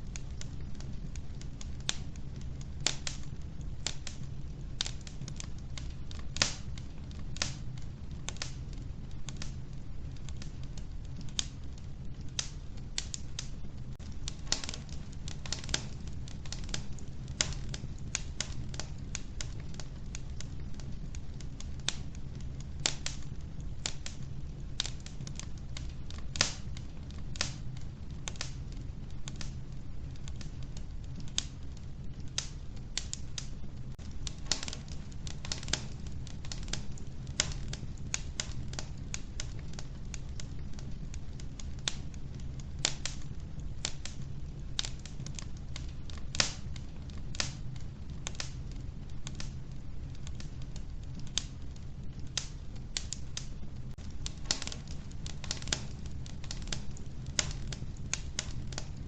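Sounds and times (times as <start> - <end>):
logs crackling and popping: 0.0 - 59.0
low rumble of fire: 0.0 - 59.0.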